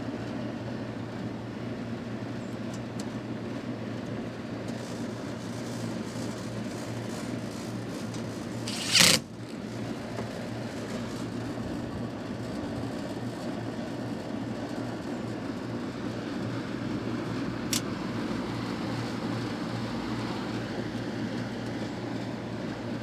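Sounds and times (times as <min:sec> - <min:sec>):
air conditioner unit humming: 0:00.0 - 0:23.0.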